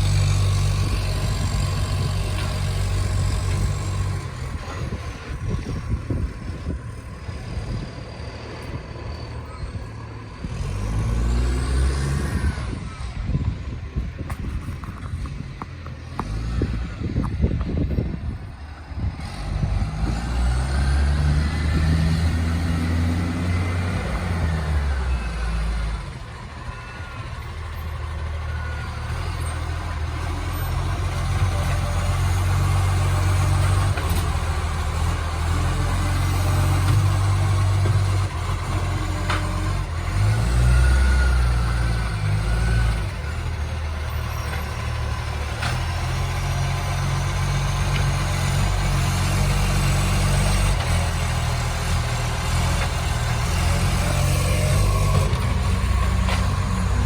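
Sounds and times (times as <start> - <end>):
rough diesel engine running: 0.0 - 57.0.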